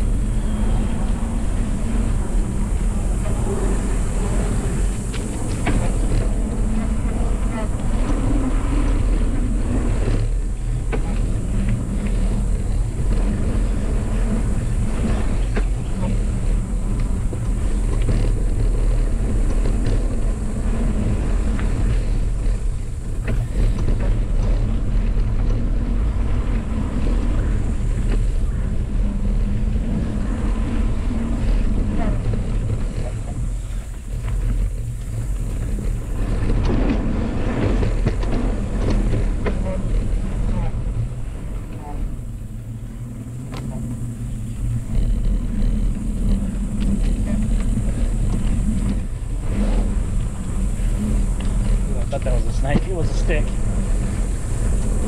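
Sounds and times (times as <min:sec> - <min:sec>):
wind and tyre rumble: 0:00.0 - 0:55.0
bike knocks and rattles: 0:04.7 - 0:55.0.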